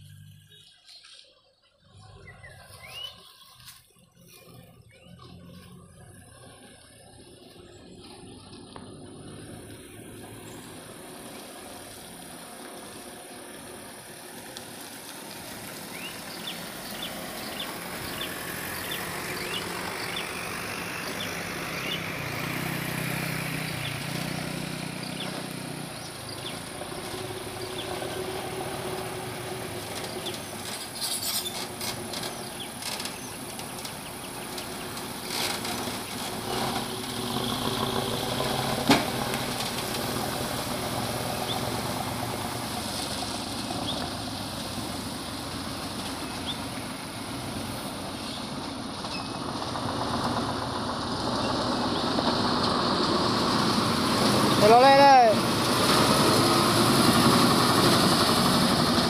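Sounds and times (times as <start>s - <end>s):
truck engine approaching: 0.0s - 59.0s.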